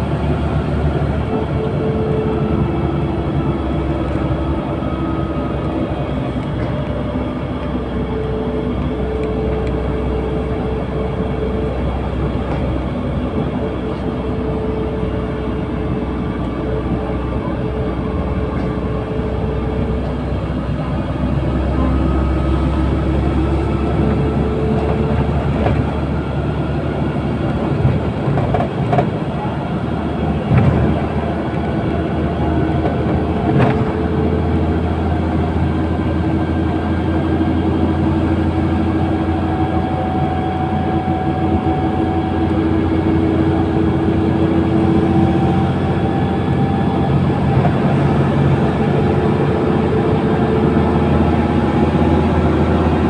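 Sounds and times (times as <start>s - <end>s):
bus engine drone: 0.0s - 53.0s
road noise: 0.0s - 53.0s.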